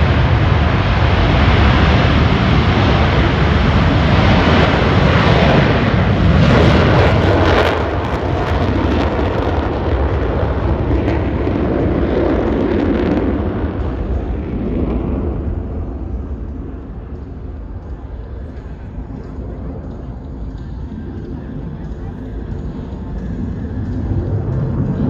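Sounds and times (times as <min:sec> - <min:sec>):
jet roar passing: 0:00.0 - 0:25.0.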